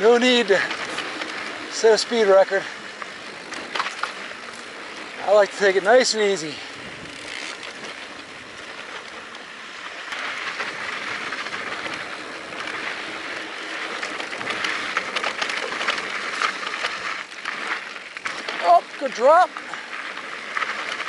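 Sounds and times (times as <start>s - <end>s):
bike rattling clicks: 0.0s - 21.0s
bike tyres crunching over dirt: 0.0s - 21.0s.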